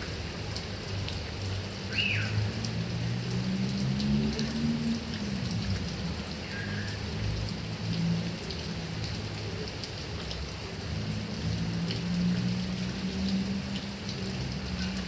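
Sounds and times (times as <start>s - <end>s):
heavy rain on grass and palms: 0.0s - 15.0s
raindrops ticking: 0.0s - 15.0s.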